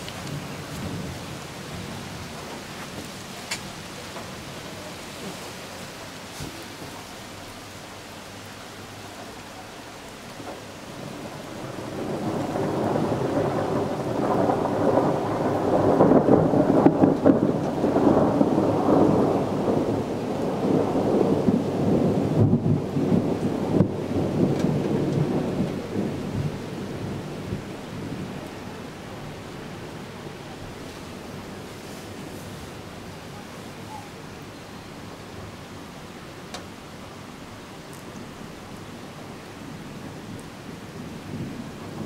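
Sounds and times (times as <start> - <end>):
thunder rumbling: 0.0 - 7.8, 9.2 - 35.9, 37.8 - 42.0
steady rain hiss: 0.0 - 42.0.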